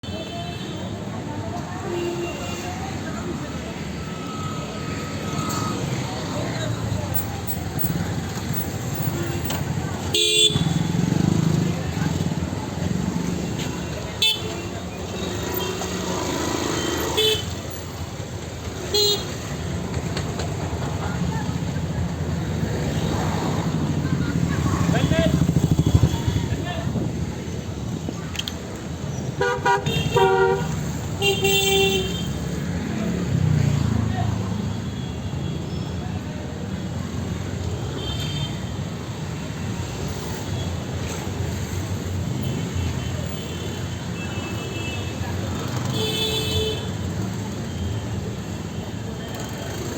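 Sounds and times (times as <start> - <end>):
busy street traffic: 0.0 - 49.9.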